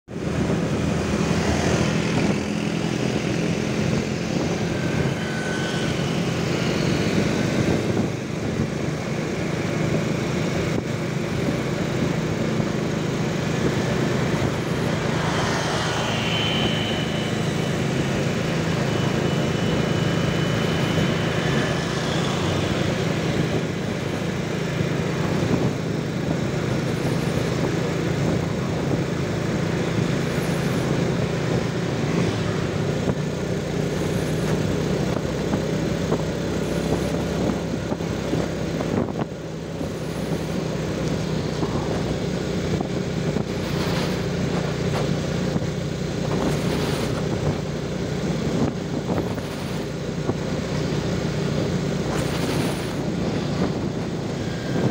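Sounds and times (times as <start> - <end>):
engine drone: 0.0 - 54.9
road and wind noise: 0.0 - 54.9
surrounding traffic: 0.0 - 54.9.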